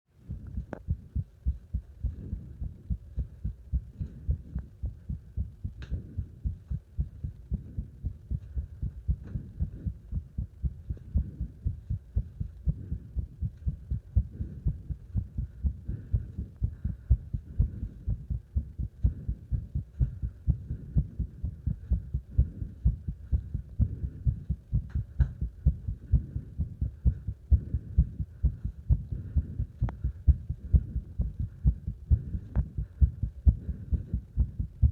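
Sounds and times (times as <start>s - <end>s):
fast heartbeat thumps: 0.2s - 34.9s.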